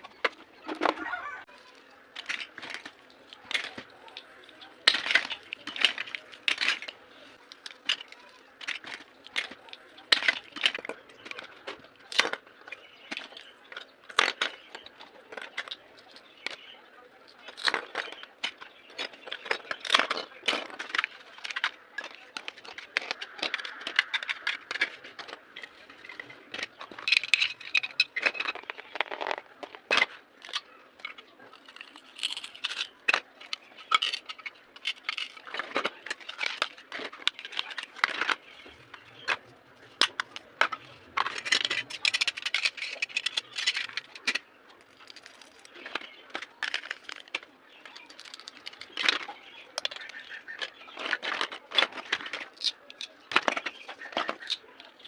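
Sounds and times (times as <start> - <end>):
plastic parts rattling: 0.0 - 55.0.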